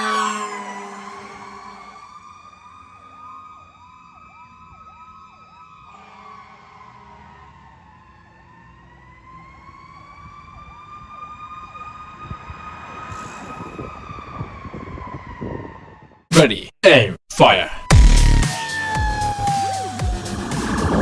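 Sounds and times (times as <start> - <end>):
fast yelping siren: 0.0 - 16.2, 17.8 - 21.0
fire engine siren wailing: 0.0 - 16.3, 17.7 - 21.0.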